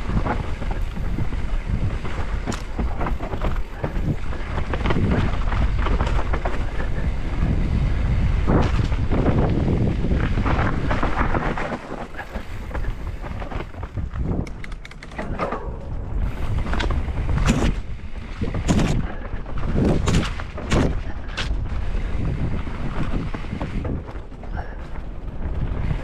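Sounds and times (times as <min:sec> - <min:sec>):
tyres rumbling on dirt: 0:00.0 - 0:14.4, 0:15.0 - 0:26.0
bike knocking and rattling: 0:00.0 - 0:26.0
wind buffeting microphone: 0:00.0 - 0:26.0.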